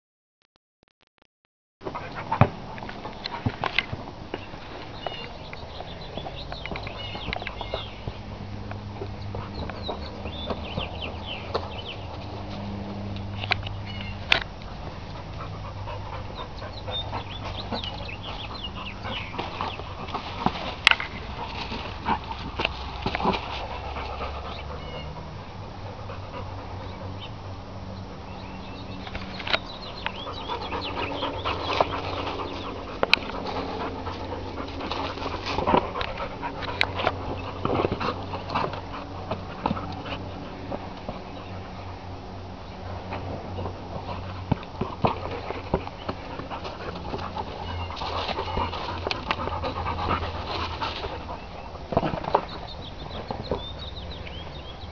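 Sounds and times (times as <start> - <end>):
dog panting: 1.8 - 13.4, 14.6 - 54.9.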